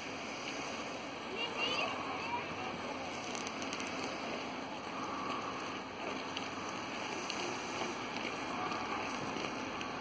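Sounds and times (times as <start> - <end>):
snow-making machines hissing: 0.0 - 10.0.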